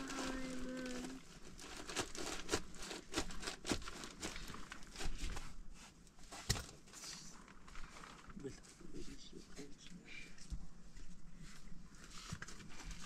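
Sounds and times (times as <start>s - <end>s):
crinkling and rustling with clicks: 0.0s - 13.0s.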